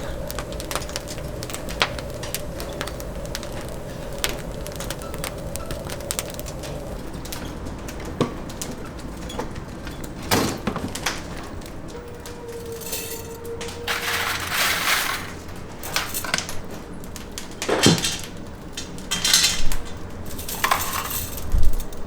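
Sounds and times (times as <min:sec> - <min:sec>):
steady hum: 0:00.0 - 0:20.6
wood fire crackling and popping: 0:00.0 - 0:22.0.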